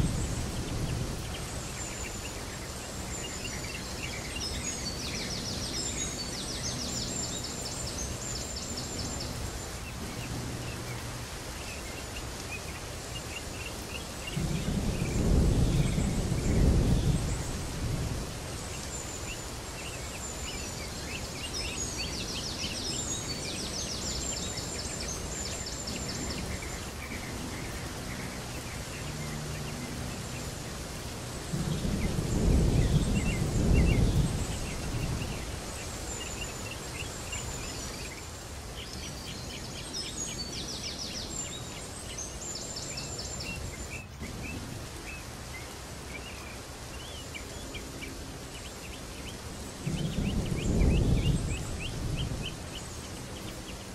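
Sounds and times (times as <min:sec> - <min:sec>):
birds chirping: 0:00.0 - 0:53.9
steady rushing noise: 0:00.0 - 0:53.9.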